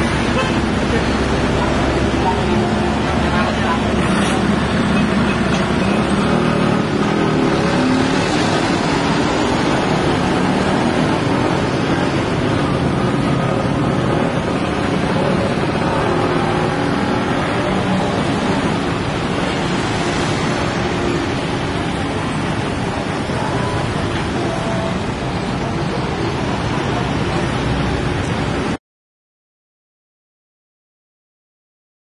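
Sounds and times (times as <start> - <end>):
cars passing: 0.0 - 28.8
excavator diesel engine running: 0.0 - 28.8.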